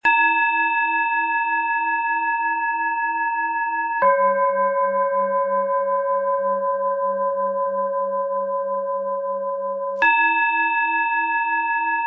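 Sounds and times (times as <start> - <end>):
singing bowl ringing: 0.0 - 12.0.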